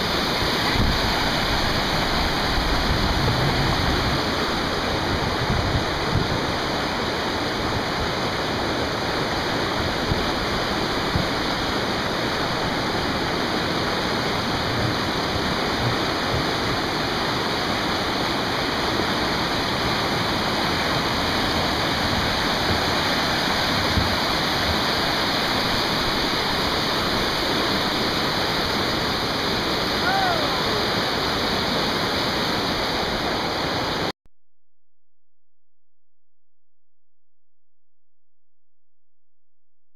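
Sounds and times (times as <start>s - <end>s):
water rushing over rocks: 0.0s - 34.1s.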